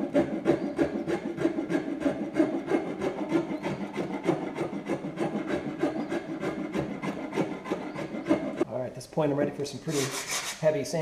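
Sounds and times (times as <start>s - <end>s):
rasp shaving wood: 0.0s - 8.7s, 9.8s - 10.7s.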